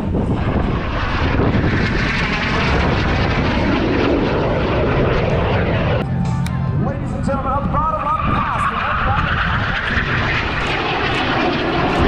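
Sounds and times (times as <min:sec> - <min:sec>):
jet aircraft engine roar: 0:00.0 - 0:12.0.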